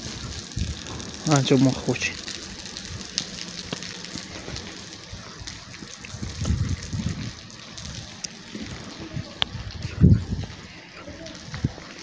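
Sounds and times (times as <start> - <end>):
low rumbling bursts: 0.0 - 10.8
rain on wet street: 0.0 - 12.0.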